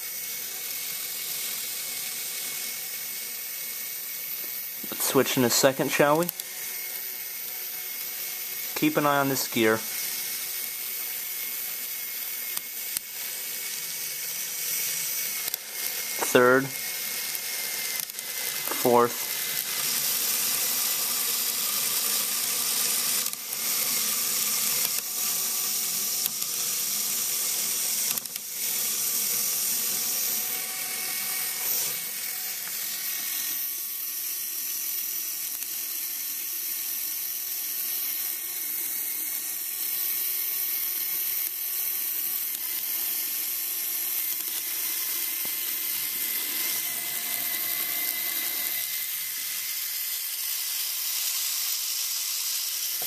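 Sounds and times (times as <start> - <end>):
toy motor whirring: 0.0 - 53.0.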